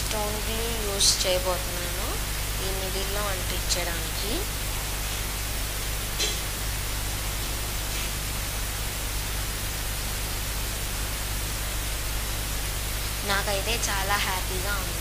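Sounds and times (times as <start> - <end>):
low constant hum: 0.0 - 15.0
steady hiss: 0.0 - 15.0.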